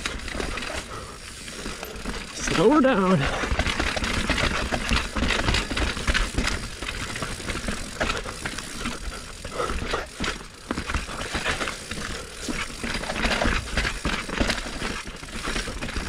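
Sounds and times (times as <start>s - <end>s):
bike chain and frame clatter: 0.0s - 16.0s.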